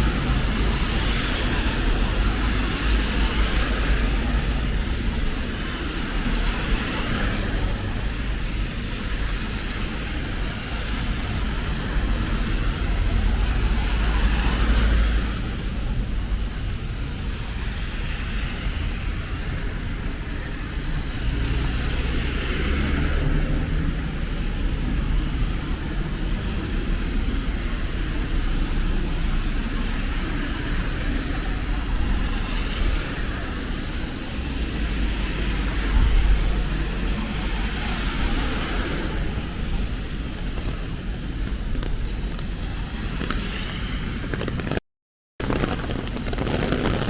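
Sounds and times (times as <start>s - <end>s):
traffic passing on wet road: 0.0s - 44.8s, 45.4s - 47.0s.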